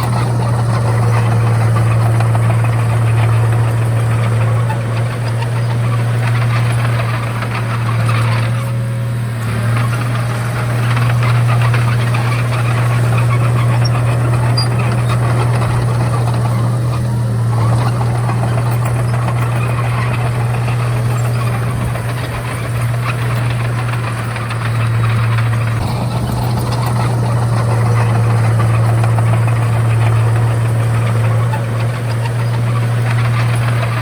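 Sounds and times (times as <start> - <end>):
bulldozer diesel engine droning: 0.0 - 34.0.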